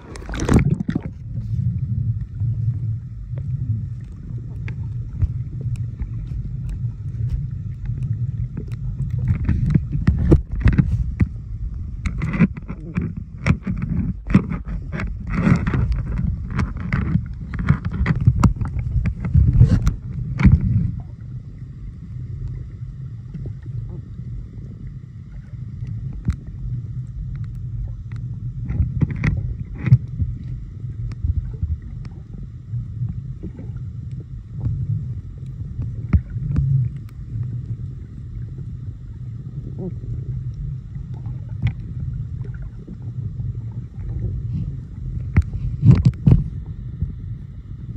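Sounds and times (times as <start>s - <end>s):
crackles and bubbly splashes: 0.0s - 47.9s
faint steady whine: 0.0s - 47.9s
underwater rumble of moving water: 0.0s - 47.9s.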